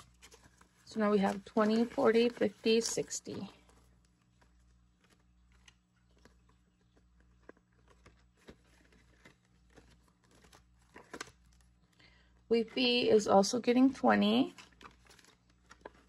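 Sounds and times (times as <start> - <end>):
paper and plastic rustling: 0.0 - 13.1, 14.4 - 16.0
low steady hum: 0.0 - 16.0.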